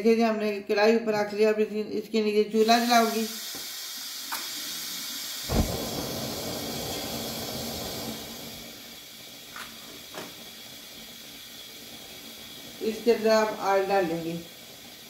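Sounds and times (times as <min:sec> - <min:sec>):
gas flame hissing: 0:02.5 - 0:15.0
gas burner lighting whoosh: 0:02.7 - 0:15.0.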